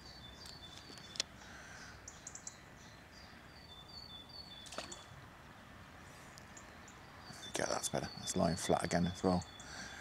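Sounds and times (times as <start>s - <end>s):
small bird singing: 0.0s - 5.2s, 6.3s - 10.0s
outdoor background hiss: 0.0s - 10.0s.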